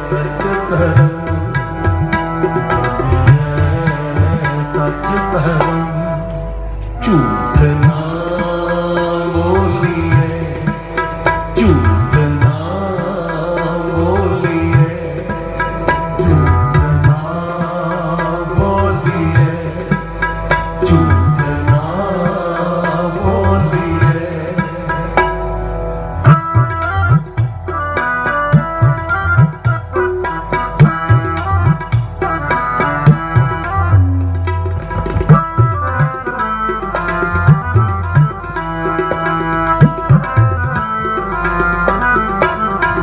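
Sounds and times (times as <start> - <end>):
harmonium: 0.0 - 43.0
tabla playing: 0.0 - 43.0.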